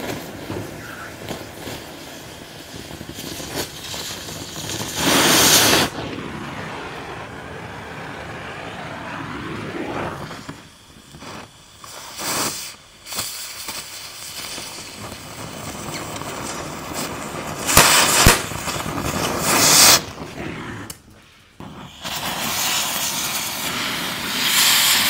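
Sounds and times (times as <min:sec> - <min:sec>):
cutting torch hissing: 0:00.0 - 0:25.0.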